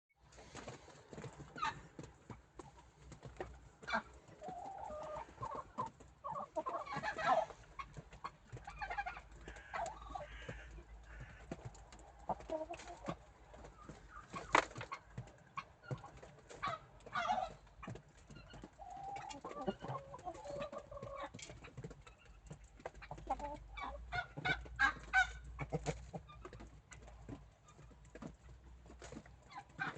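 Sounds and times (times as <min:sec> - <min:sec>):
chickens clucking: 0:00.2 - 0:29.9.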